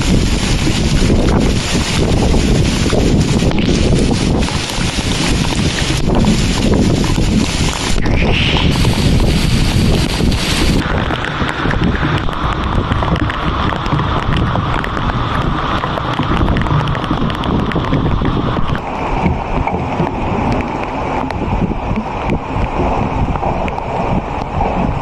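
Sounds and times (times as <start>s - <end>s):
heavy rain falling: 0.0s - 25.0s
wind rumbling on microphone: 0.0s - 25.0s.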